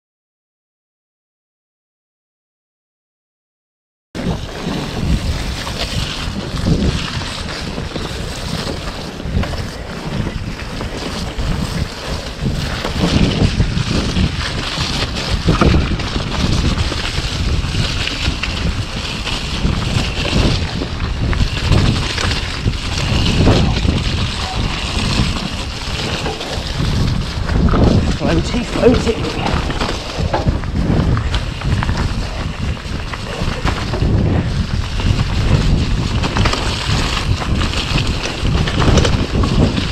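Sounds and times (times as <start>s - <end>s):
bike tyres rolling through mud: 4.2s - 39.9s
wind rushing over microphone: 4.2s - 39.9s.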